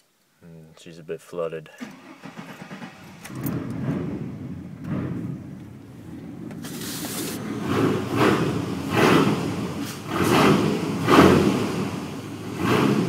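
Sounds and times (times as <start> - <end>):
truck exhaust surging: 1.9 - 13.0.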